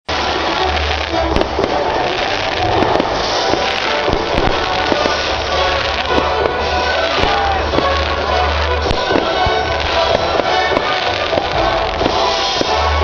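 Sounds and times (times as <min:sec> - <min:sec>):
fireworks bangs and crackling: 0:00.0 - 0:13.0
music playing: 0:00.1 - 0:13.0.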